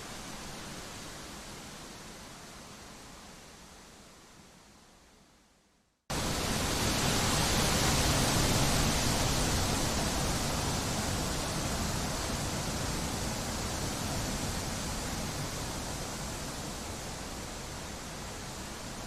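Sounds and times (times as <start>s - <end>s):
wind blowing through trees: 0.0s - 5.4s, 6.1s - 19.0s.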